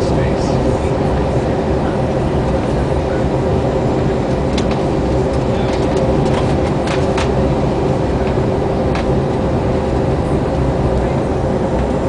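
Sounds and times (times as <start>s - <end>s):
constant hum: 0.0s - 12.0s
jet engine drone: 0.0s - 12.0s.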